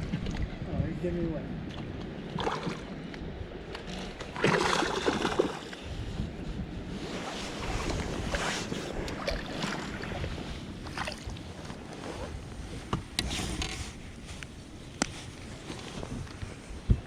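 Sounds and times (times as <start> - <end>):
water noise: 0.0 - 17.0
wind noise: 0.0 - 17.0.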